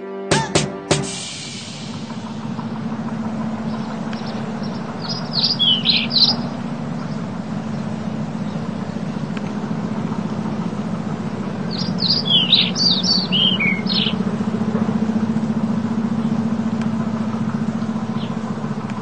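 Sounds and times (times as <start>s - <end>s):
steady low drone: 0.0s - 19.0s
small birds chirping: 1.7s - 19.0s.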